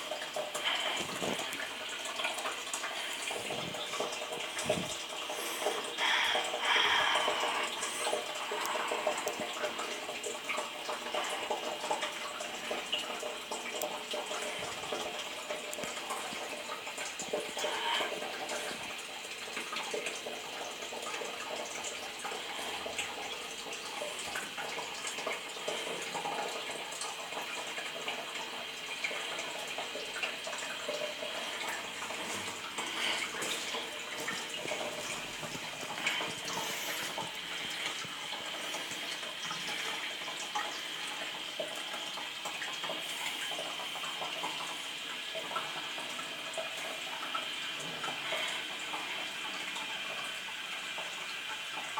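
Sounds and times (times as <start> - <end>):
water running in toilet: 0.0 - 51.9.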